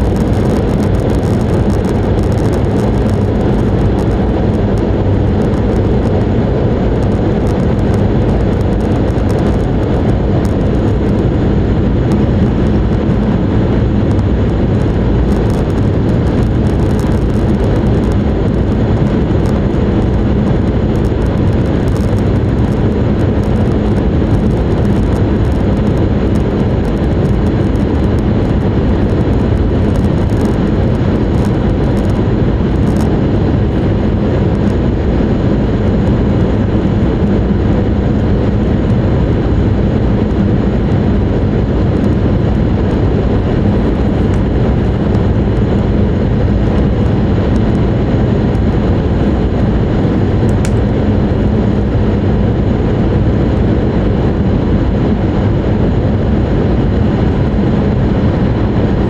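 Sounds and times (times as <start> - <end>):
train rumbling at speed: 0.0 - 59.0.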